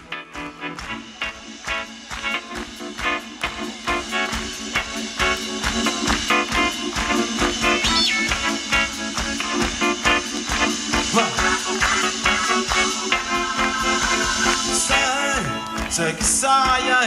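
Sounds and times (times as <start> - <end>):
pop band playing: 0.0 - 17.0.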